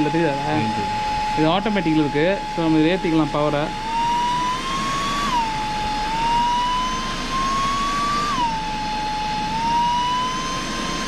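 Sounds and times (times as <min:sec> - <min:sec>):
vacuum cleaner motor whining: 0:00.0 - 0:11.0.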